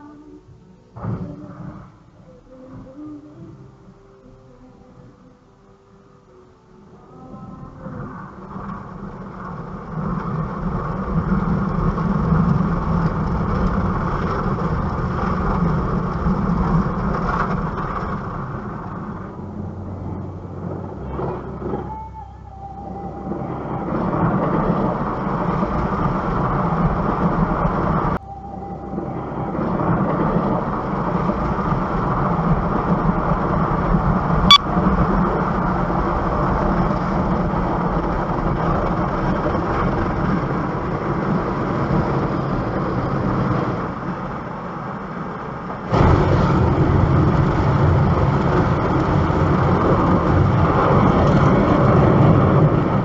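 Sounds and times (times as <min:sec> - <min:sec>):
car noise: 0:06.9 - 0:53.0.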